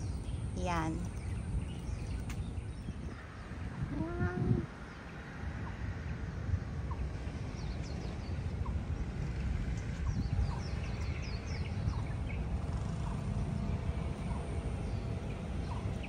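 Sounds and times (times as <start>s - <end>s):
small birds chirping: 0.0s - 5.9s, 6.7s - 16.0s
steady low rumble: 0.0s - 16.0s.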